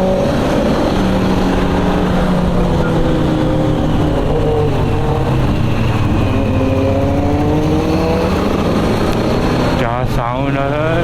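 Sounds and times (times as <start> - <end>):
low engine rumble: 0.0 - 11.0
motorcycle engines accelerating: 0.0 - 11.0.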